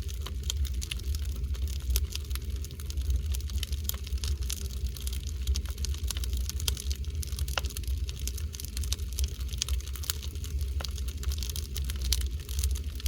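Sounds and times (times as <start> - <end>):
firewood crackling and popping: 0.0 - 13.0
low steady rumble: 0.0 - 13.0.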